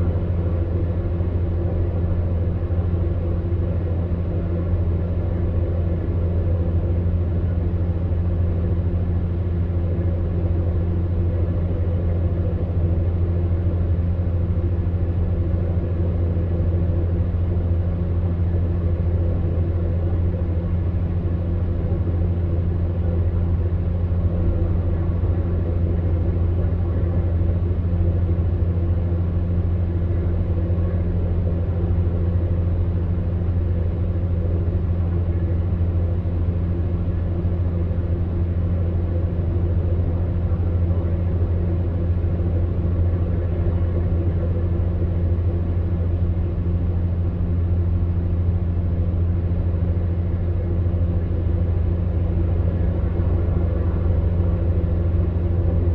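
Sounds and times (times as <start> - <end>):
fan air rushing: 0.0 - 55.9
fan heater motor hum: 0.0 - 55.9.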